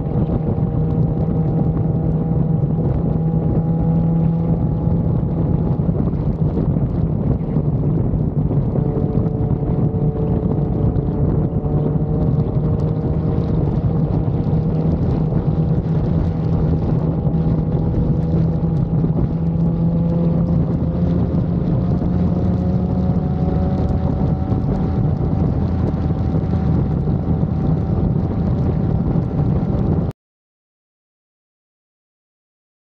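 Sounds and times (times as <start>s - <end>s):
motorcycle engine running: 0.0s - 30.1s
wind noise on microphone: 0.0s - 30.1s.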